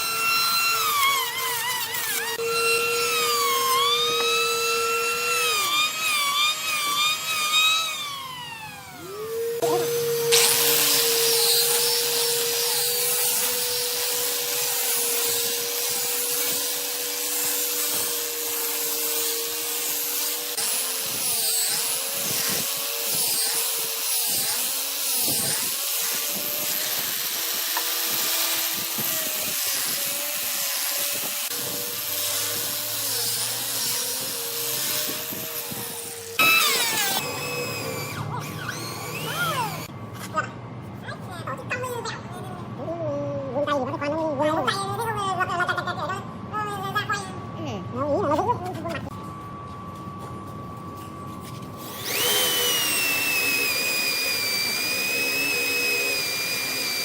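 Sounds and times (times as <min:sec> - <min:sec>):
power tool motor whining: 0:00.0 - 0:39.9, 0:50.9 - 0:57.0.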